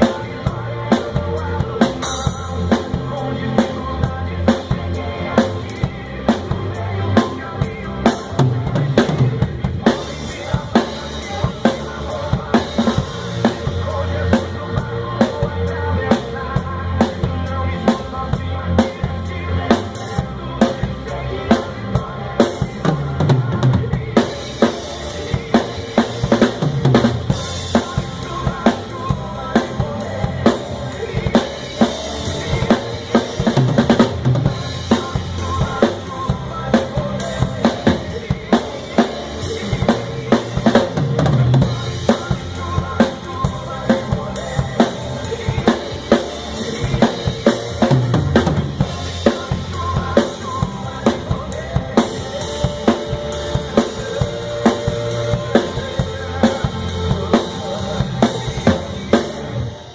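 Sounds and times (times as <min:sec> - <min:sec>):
backing track with instruments: 0:00.0 - 0:59.9
drum kit groove: 0:00.0 - 0:59.9.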